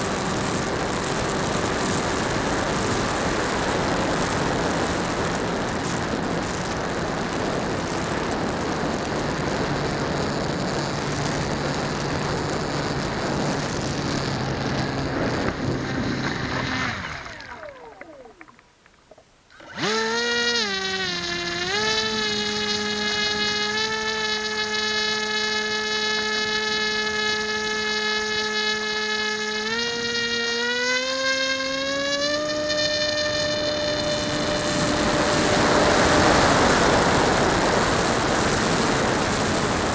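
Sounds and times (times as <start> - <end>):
electric motor propeller whine: 0.0 - 18.6, 19.5 - 39.9
rushing air and motor noise: 0.0 - 18.6, 19.5 - 39.9.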